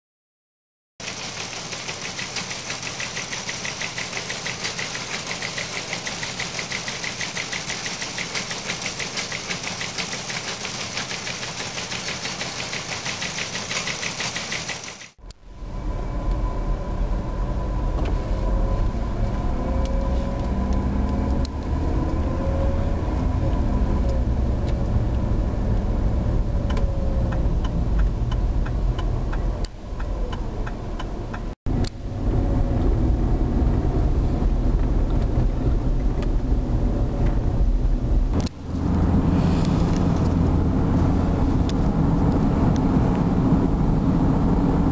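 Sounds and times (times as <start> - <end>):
car engine and road rumble: 1.1 - 44.9.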